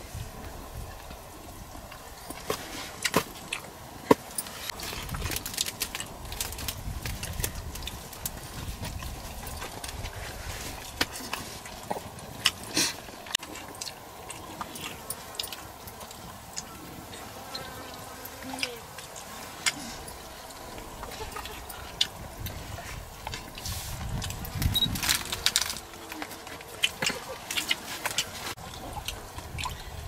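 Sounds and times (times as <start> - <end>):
chewing: 4.5 - 30.0.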